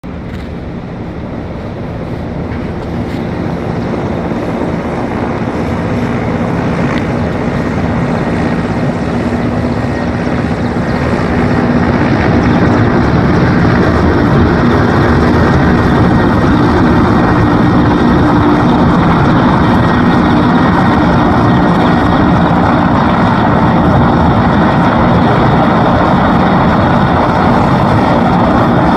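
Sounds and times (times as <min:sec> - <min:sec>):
helicopter rotor and engines: 0:00.0 - 0:28.9.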